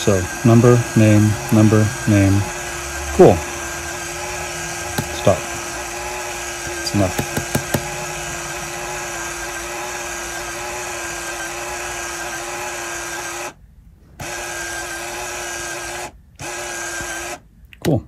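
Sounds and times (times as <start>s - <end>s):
mini printer motor whirring: 0.0s - 13.6s, 14.2s - 17.4s.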